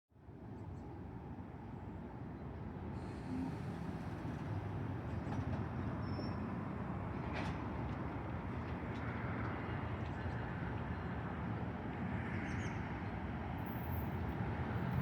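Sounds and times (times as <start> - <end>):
low rumble of a train: 0.1 - 15.0.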